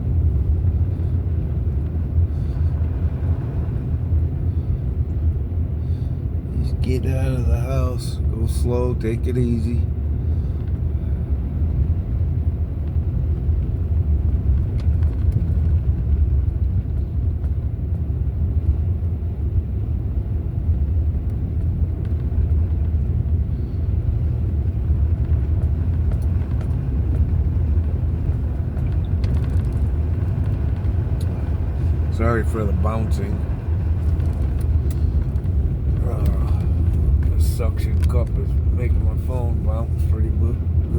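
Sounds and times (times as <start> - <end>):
vehicle road and engine rumble: 0.0 - 40.9.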